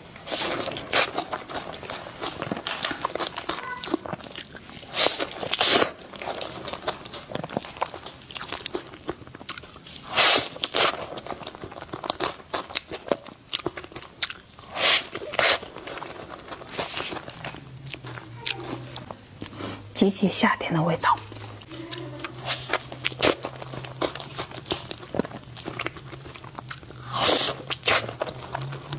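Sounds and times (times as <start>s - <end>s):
chewing soft dessert: 0.0s - 28.9s.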